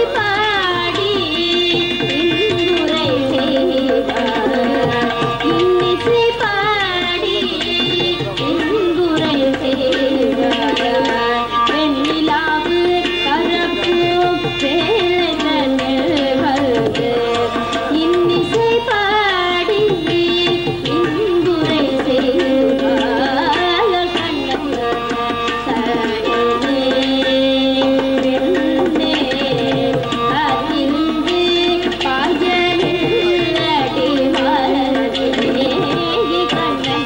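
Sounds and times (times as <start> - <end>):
violin: 0.0 - 37.0
woman singing: 0.0 - 37.0.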